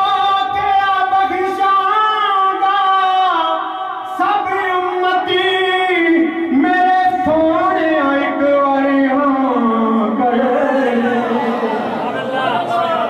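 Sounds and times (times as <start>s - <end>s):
man singing into a microphone: 0.0s - 11.2s.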